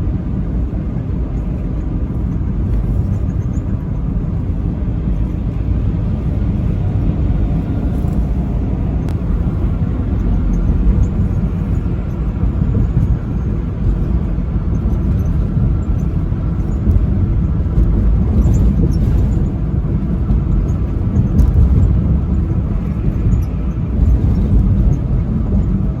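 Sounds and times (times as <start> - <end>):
truck driving rumble: 0.0 - 26.0.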